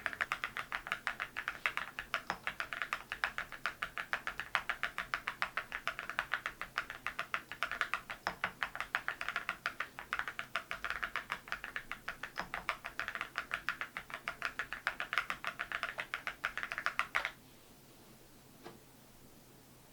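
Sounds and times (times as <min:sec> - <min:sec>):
fast typing on mechanical keyboard: 0:00.0 - 0:17.4.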